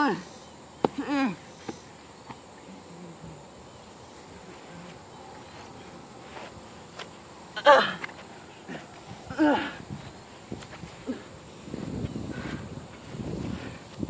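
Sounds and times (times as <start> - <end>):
steady high hum: 0.0 - 14.0.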